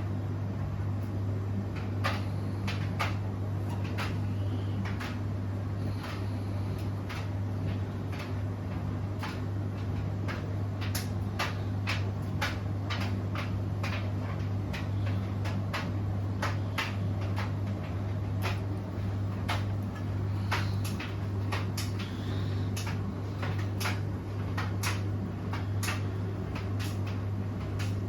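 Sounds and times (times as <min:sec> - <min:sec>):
washing machine hum: 0:00.0 - 0:28.0
washing machine clicks and knocks: 0:01.0 - 0:05.4, 0:06.0 - 0:28.0.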